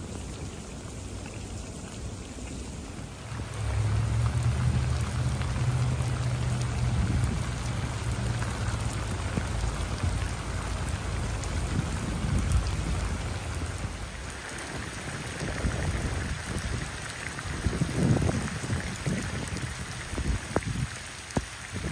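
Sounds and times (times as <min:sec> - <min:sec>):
heavy rain on standing water: 0:00.0 - 0:21.9.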